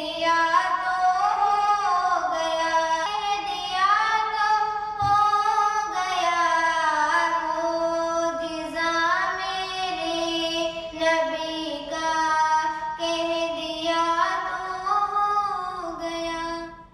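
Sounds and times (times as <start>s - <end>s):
girl singing into a microphone: 0.0s - 16.9s.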